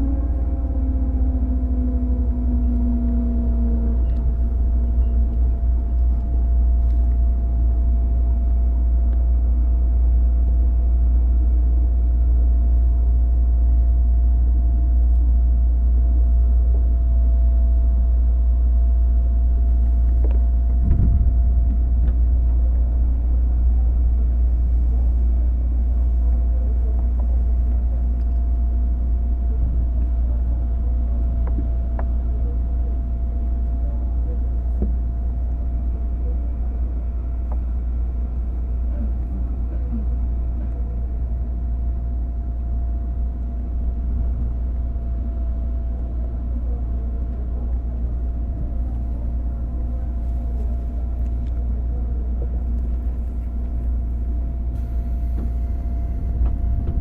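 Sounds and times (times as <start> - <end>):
electric train motor rumbling: 0.0 - 57.0.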